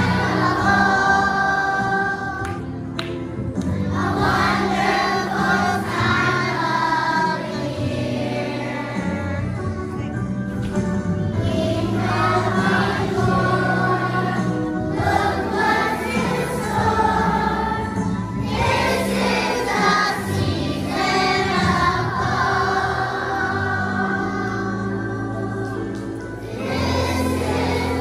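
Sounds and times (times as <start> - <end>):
children's choir singing: 0.0 - 3.0, 3.8 - 10.2, 11.3 - 28.0.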